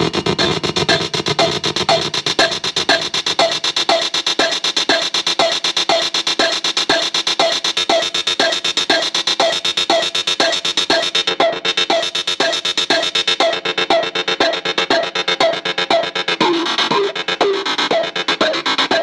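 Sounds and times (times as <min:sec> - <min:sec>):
glitchy stuttering drum machine clicks: 0:00.0 - 0:19.0.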